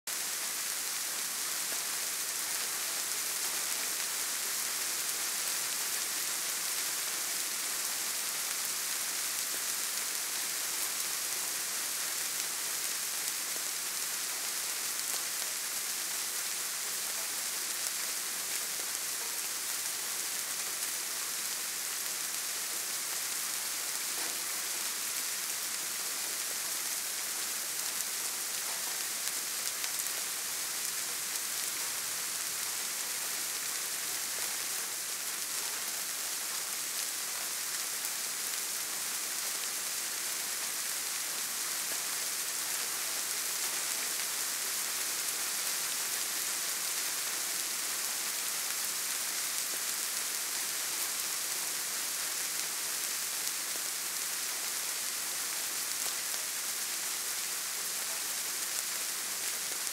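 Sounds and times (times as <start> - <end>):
soft rain hiss: 0.1 - 59.9.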